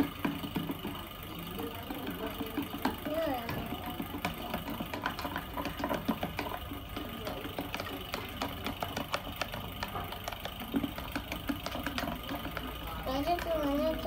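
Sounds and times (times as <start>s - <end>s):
spoon stirring slime in container: 0.0s - 14.0s
steady low hum: 0.0s - 14.0s.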